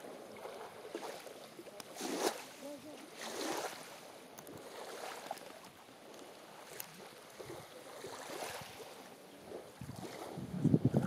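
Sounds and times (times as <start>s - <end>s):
lapping lake water: 0.0s - 11.0s
light wind: 0.0s - 11.0s.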